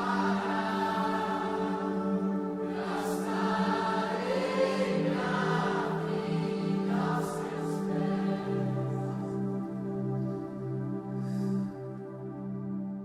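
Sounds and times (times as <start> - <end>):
voices holding wordless notes: 0.0 - 12.0
slow worship music: 0.0 - 13.0.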